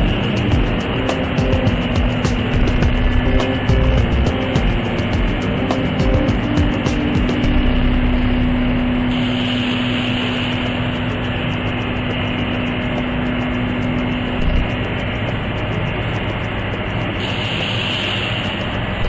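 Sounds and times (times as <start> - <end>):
baler machinery running: 0.0 - 19.0
machine hum: 0.0 - 19.0.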